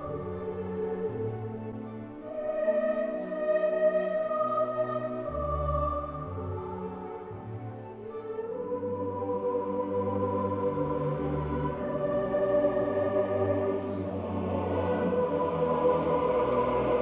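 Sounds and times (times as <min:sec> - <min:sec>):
choral organ-like sound: 0:00.0 - 0:17.0
slow music with long held notes: 0:00.0 - 0:17.0.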